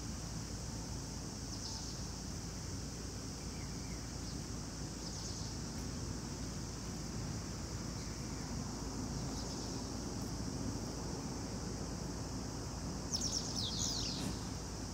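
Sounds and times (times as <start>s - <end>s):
insects chorus: 0.0s - 14.9s.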